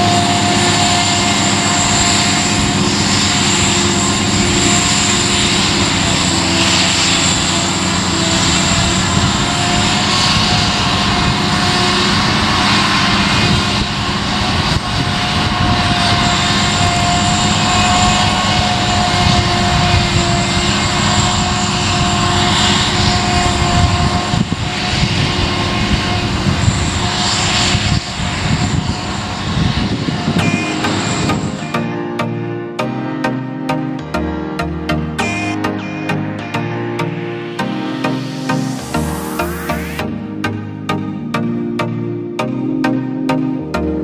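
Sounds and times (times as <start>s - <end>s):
forage harvester engine drone: 0.0s - 44.0s
machine whine: 0.0s - 44.0s.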